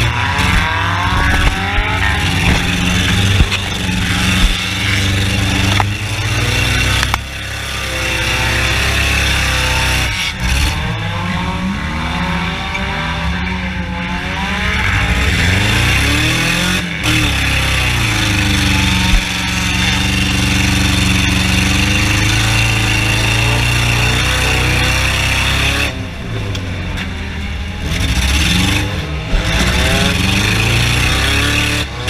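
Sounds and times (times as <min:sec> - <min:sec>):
race car engines revving: 0:00.0 - 0:32.0.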